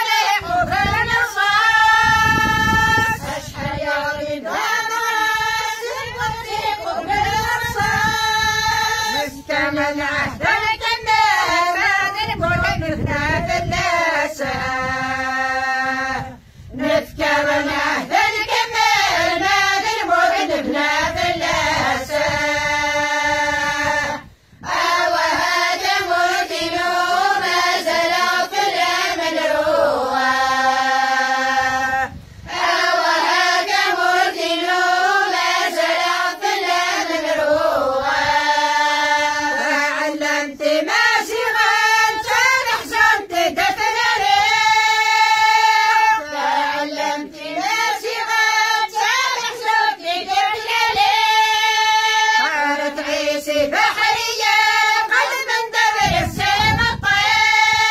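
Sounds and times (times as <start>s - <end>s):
women and girls singing in unison: 0.0s - 57.9s.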